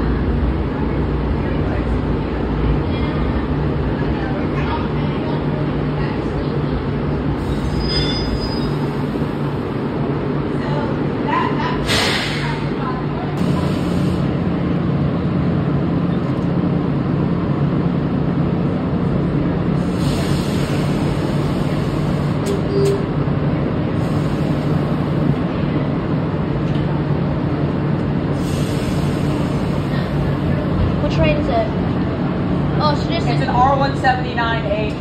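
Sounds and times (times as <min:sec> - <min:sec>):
subway car hum and rumble: 0:00.0 - 0:35.0.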